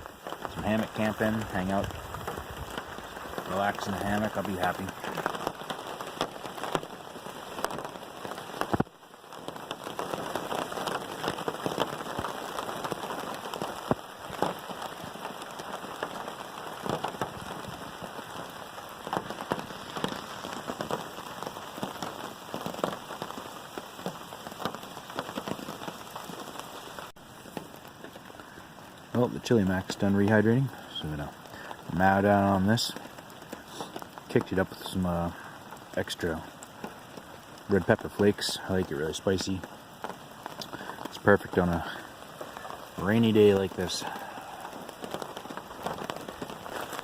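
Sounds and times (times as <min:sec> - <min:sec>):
rain pattering on a tarp: 0:00.0 - 0:47.0
raindrops tapping sharply: 0:00.0 - 0:47.0.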